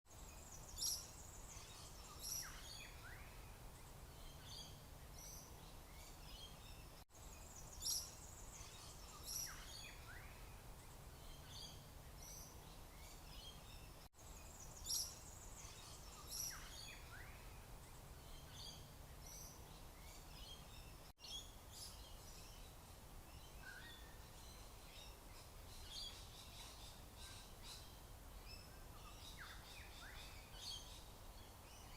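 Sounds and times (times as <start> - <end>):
background hiss: 0.1 - 31.9
birds chirping: 0.2 - 31.9.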